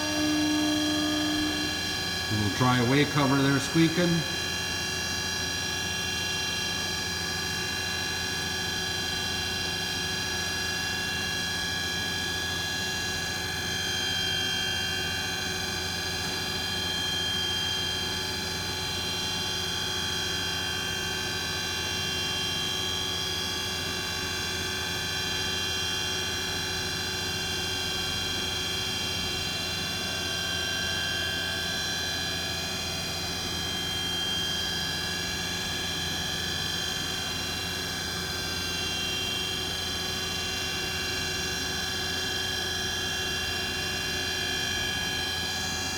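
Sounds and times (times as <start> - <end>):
machine whine over low hum: 0.0 - 45.9.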